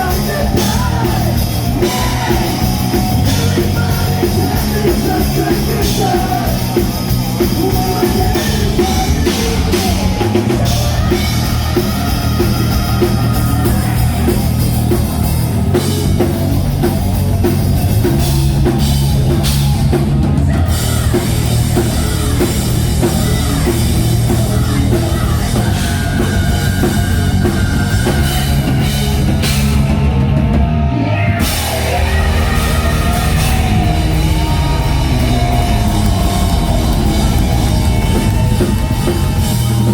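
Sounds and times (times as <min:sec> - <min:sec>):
driving drum kit: 0:00.0 - 0:39.9
live rock band playing: 0:00.0 - 0:39.9.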